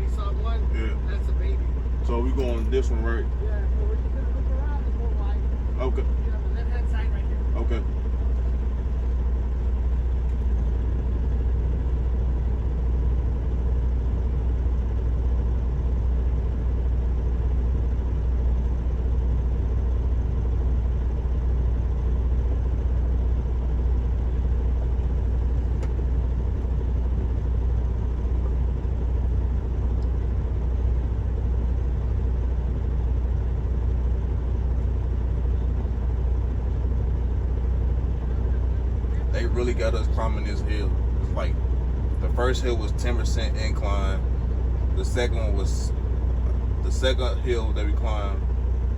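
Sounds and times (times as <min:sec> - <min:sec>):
diesel truck engine droning: 0:00.0 - 0:48.9.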